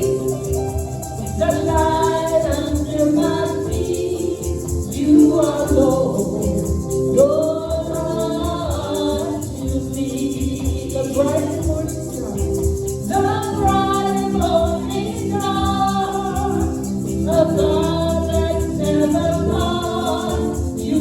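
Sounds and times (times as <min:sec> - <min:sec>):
gospel singing: 0:00.0 - 0:21.0
instrumental backing: 0:00.0 - 0:21.0
shaken percussion: 0:00.0 - 0:21.0.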